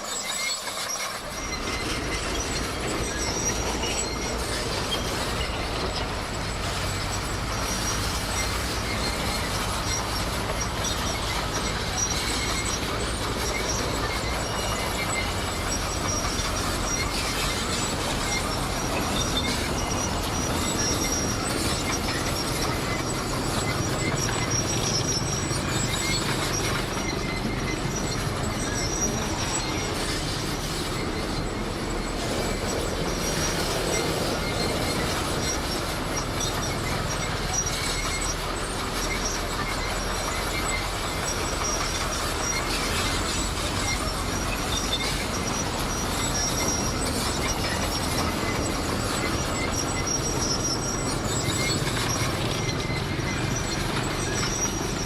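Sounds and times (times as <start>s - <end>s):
bulldozer diesel engine under load: 0.0s - 55.0s
steel tracks squealing and clanking: 0.0s - 55.0s.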